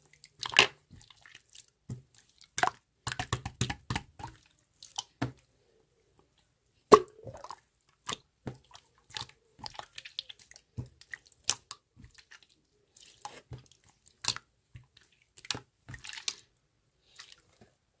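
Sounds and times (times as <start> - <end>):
wet clicks and squishes: 0.0 - 5.5, 6.3 - 17.7.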